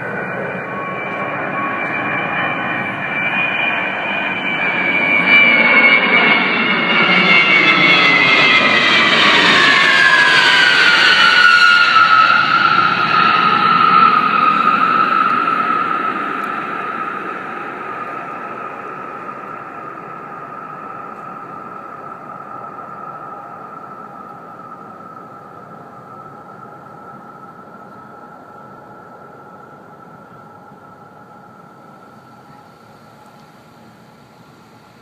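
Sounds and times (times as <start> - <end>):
plane engine passing overhead: 0.0 - 35.0.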